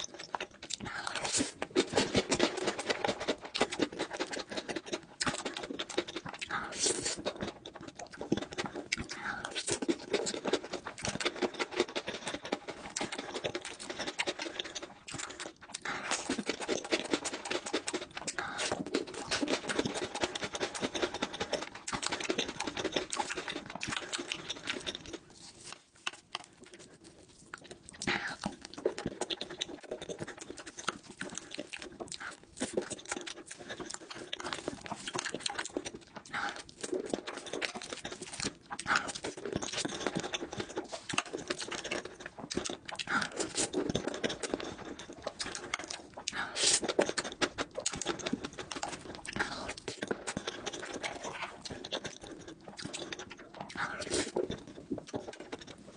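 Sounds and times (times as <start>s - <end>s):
person chewing and lip smacking: 0.0s - 55.9s.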